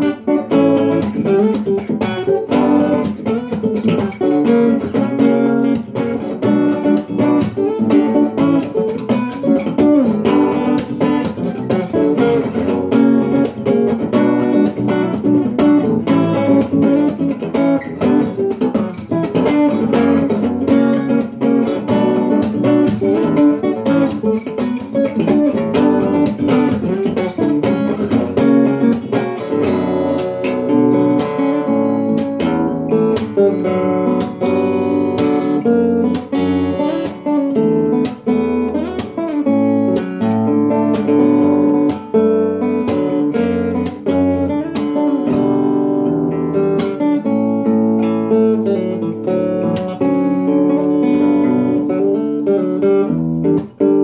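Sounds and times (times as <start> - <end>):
fingerstyle acoustic guitar: 0.0 - 54.0.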